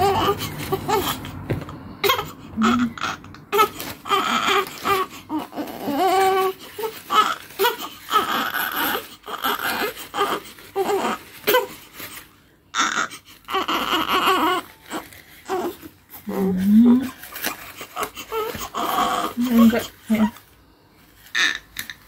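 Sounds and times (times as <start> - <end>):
newborn baby crying: 0.0 - 20.4, 21.2 - 22.0.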